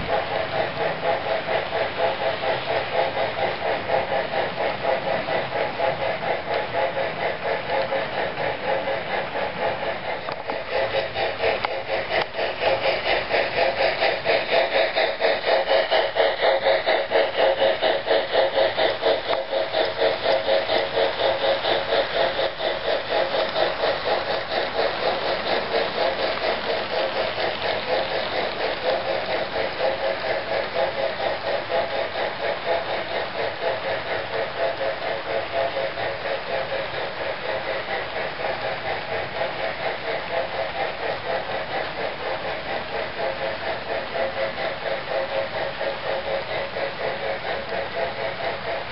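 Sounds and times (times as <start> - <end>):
model steam locomotive chuffing: 0.0 - 48.9
wheels rolling on track: 0.0 - 48.9.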